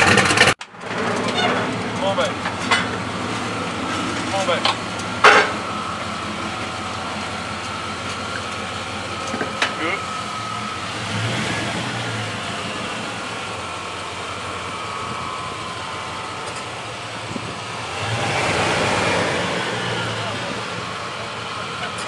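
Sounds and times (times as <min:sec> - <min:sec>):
pickup truck engine running: 0:00.0 - 0:22.0.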